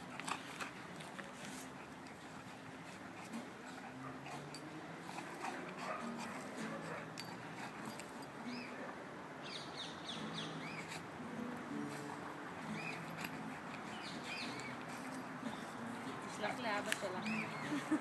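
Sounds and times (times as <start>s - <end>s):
dogs play-growling: 0.0s - 8.6s, 10.4s - 16.6s.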